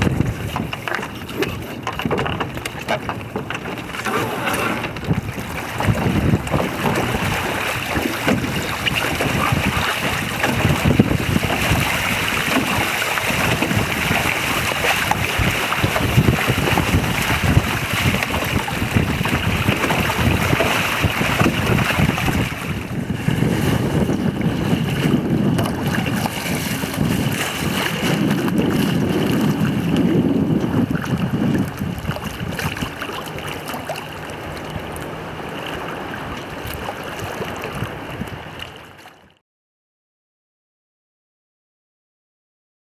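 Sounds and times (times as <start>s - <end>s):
wind buffeting microphone: 0.0s - 39.0s
water rushing along hull: 0.0s - 39.4s.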